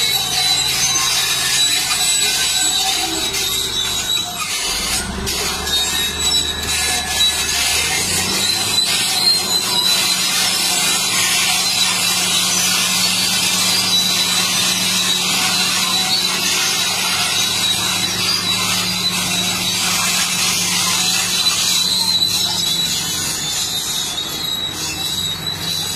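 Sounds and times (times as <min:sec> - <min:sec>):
bulldozer diesel engine: 0:00.0 - 0:25.9
steel tracks squealing: 0:00.0 - 0:25.9.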